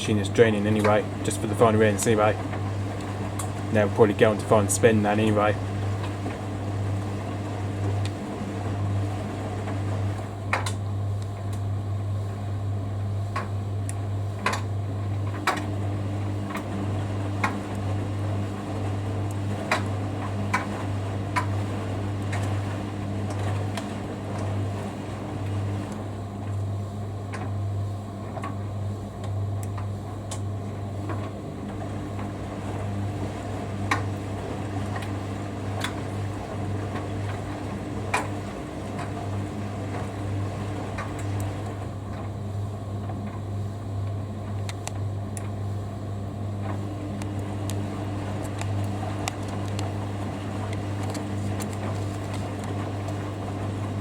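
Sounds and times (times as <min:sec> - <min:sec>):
washing machine drain pump humming: 0:00.0 - 0:54.0.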